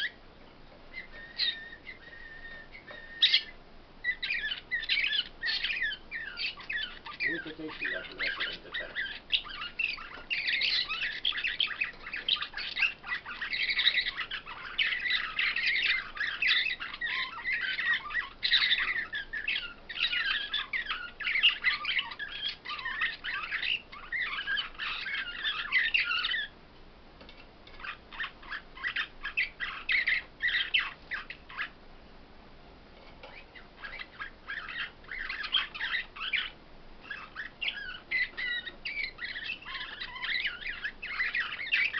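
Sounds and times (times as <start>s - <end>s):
songbirds twittering: 0.0s - 32.0s, 32.9s - 41.9s.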